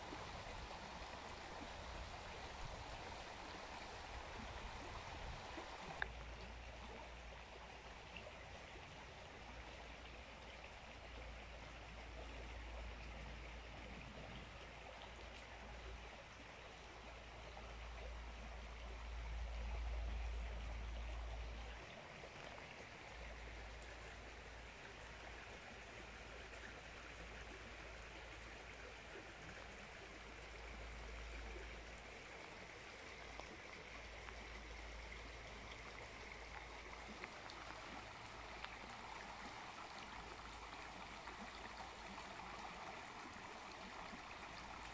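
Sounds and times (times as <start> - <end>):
river flowing over pebbles: 0.0 - 44.9.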